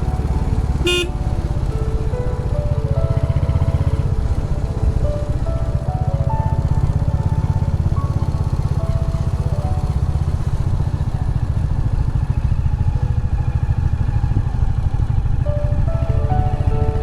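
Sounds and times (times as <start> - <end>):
faint music notes: 0.0 - 17.0
motorcycle engine pulsing: 0.0 - 17.0.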